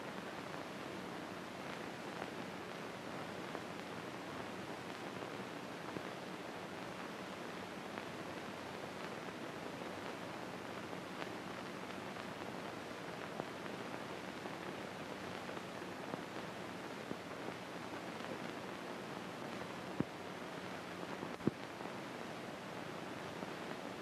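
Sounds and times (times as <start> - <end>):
faint clicks and crackles: 0.0 - 24.0
film soundtrack hiss: 0.0 - 24.0.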